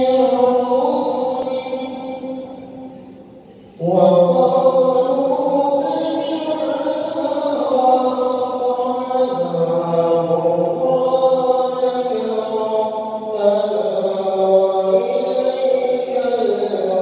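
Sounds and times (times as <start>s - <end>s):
man chanting into a microphone: 0.0s - 17.0s.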